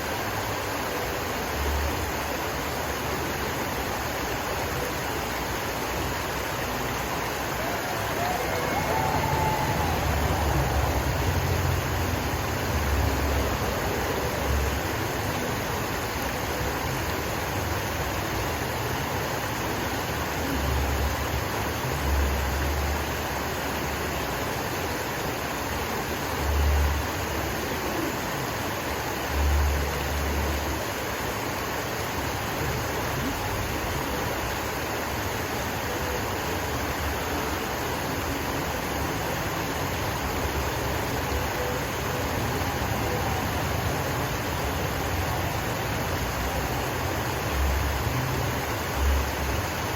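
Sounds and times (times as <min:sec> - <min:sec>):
water gushing over rocks: 0:00.0 - 0:49.9.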